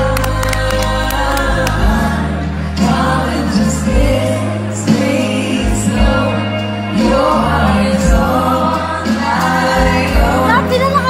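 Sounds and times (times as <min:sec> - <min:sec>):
backing track with bass line: 0:00.0 - 0:11.0
woman singing into a microphone: 0:00.0 - 0:11.0.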